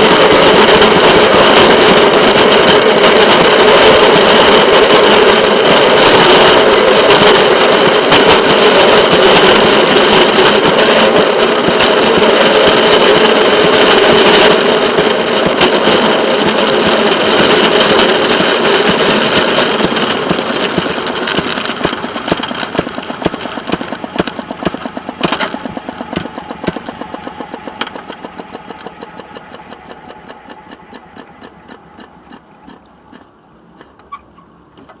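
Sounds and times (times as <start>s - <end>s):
rhythmic train wheel clicks: 0.0s - 35.0s
train rumbling on rails: 0.0s - 35.0s.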